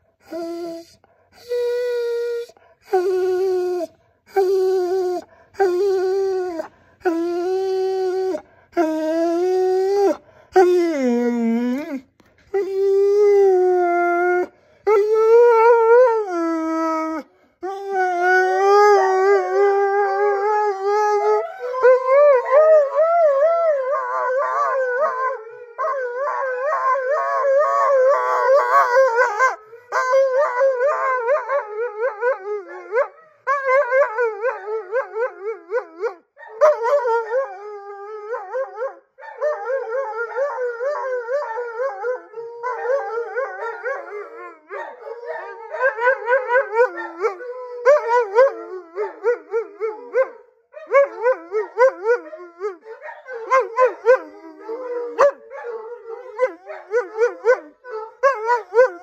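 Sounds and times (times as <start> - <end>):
dog howling: 0.2 - 59.0.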